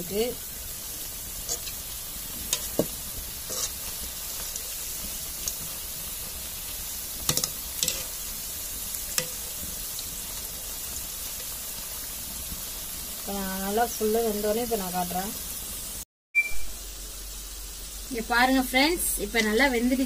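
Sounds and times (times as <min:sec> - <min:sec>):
food deep-frying in hot oil: 0:00.0 - 0:20.0.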